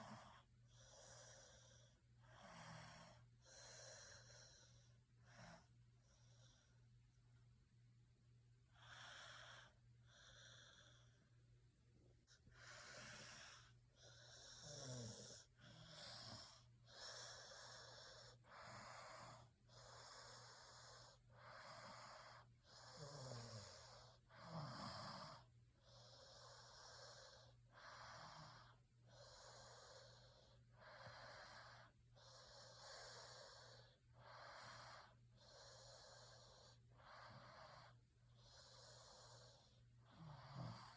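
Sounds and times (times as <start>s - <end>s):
sleep breathing with wheezy snores: 0.0s - 6.9s, 8.7s - 11.4s, 12.2s - 40.9s.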